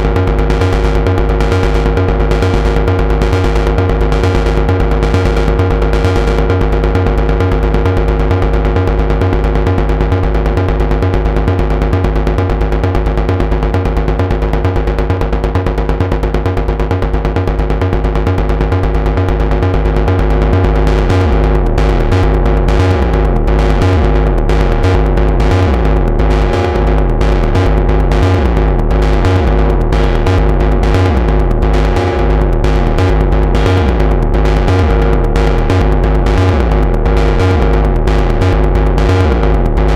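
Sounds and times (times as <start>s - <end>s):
synthesizer bass pulses: 0.0s - 39.9s
synthesizer drone tones: 0.0s - 39.9s.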